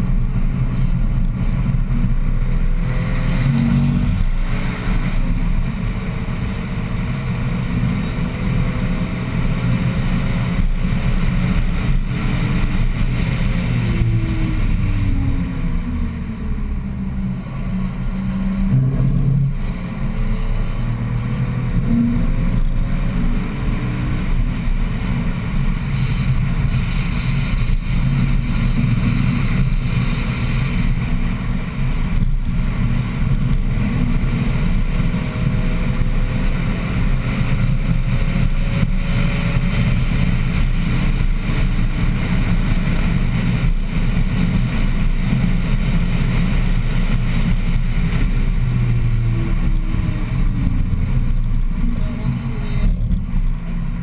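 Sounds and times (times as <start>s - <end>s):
car engine droning in cabin: 0.0s - 54.0s.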